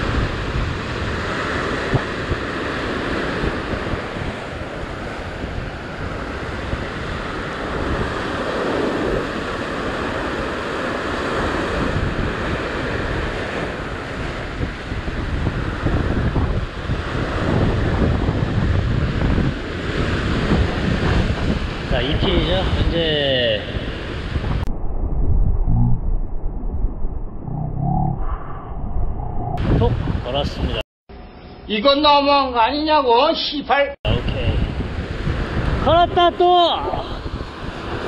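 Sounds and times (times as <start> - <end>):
wind buffeting microphone: 0.0 - 30.8, 34.1 - 38.0.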